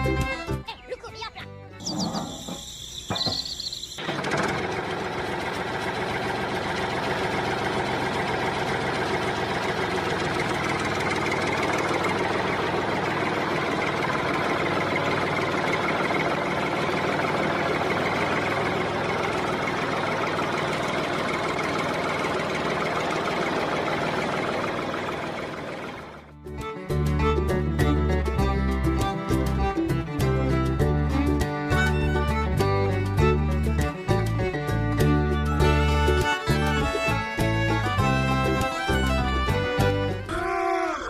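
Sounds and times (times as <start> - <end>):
motor running steadily: 3.7 - 26.4, 27.8 - 40.3.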